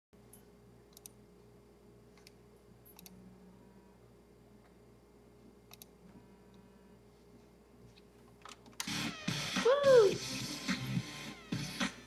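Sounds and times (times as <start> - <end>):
faint steady hum: 0.2 - 12.0.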